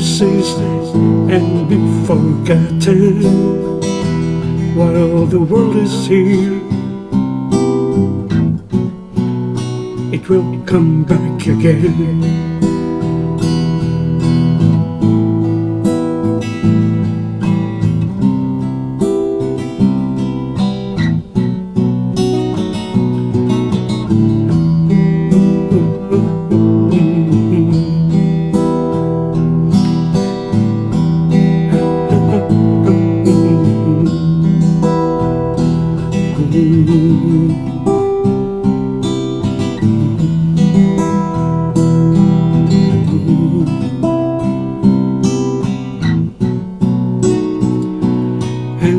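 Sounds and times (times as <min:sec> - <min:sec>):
acoustic guitar strumming: 0:00.0 - 0:48.9.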